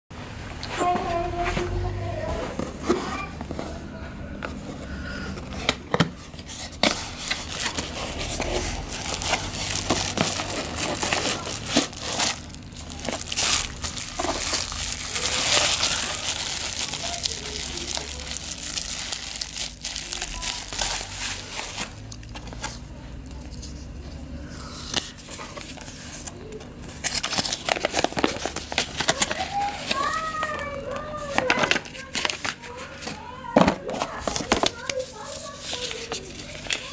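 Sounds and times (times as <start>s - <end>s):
bubble wrap crinkling: 2.6s - 23.8s, 24.9s - 36.9s.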